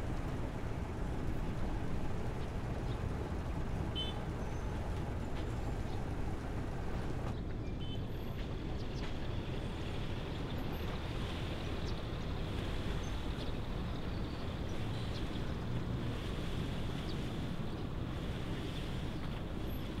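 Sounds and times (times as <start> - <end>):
ferry engine rumbling: 0.0 - 20.0.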